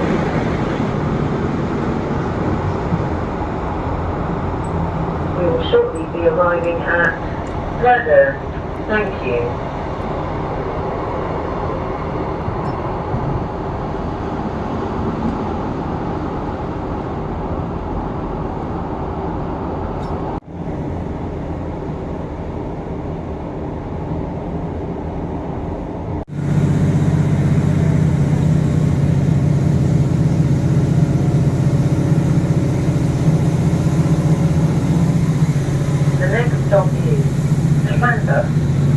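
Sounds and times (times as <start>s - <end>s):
train engine drone: 0.0s - 38.9s.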